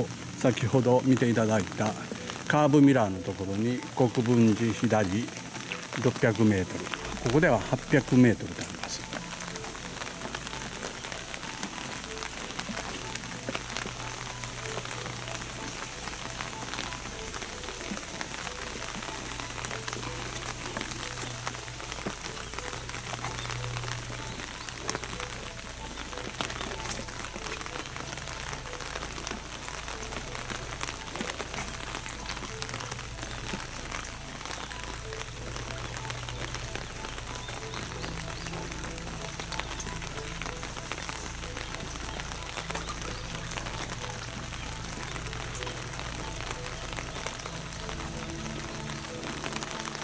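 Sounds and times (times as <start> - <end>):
rain on a wet road: 0.0 - 50.0.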